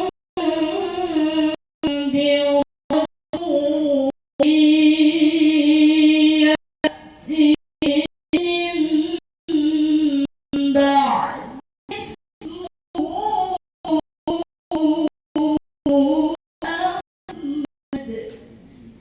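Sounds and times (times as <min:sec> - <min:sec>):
woman reciting melodically: 0:00.0 - 0:18.5.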